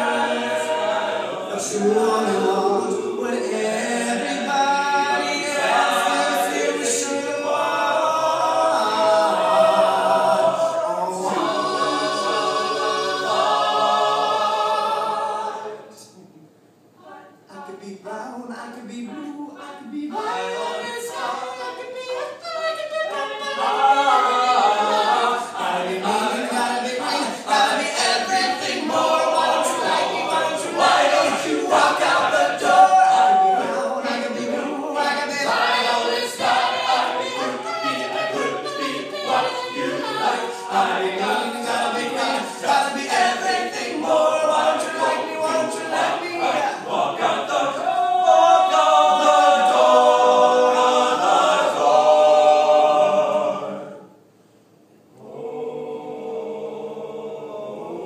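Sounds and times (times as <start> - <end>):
male a cappella group singing: 0.0 - 16.1, 17.0 - 54.1, 55.2 - 58.0.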